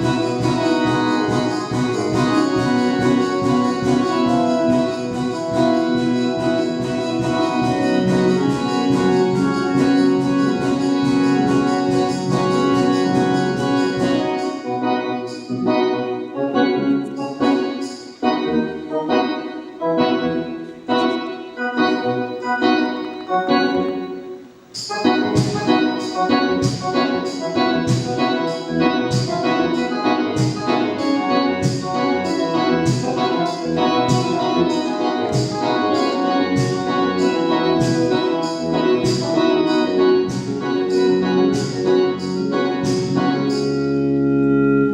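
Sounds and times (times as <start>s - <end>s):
organ-like keyboard chords: 0.0s - 44.9s.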